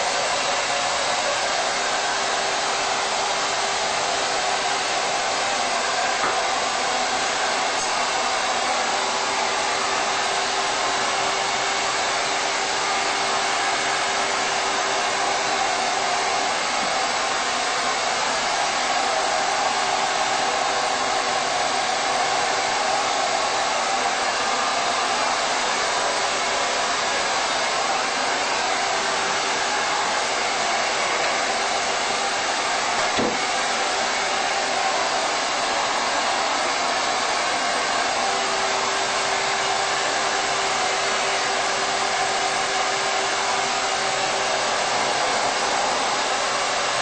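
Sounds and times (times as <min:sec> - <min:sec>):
hair dryer running: 0:00.0 - 0:47.0.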